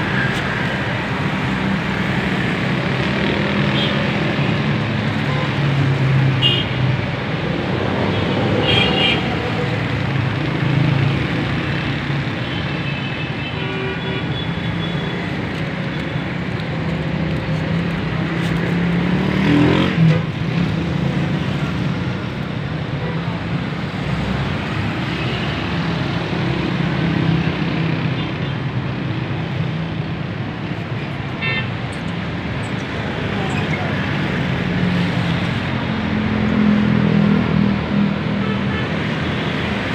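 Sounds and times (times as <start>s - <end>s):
road traffic: 0.0s - 39.9s.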